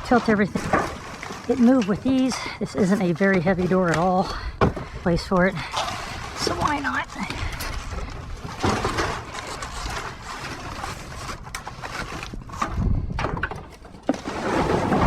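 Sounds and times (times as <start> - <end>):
debris scraping and knocking: 0.0 - 4.9, 5.7 - 15.0.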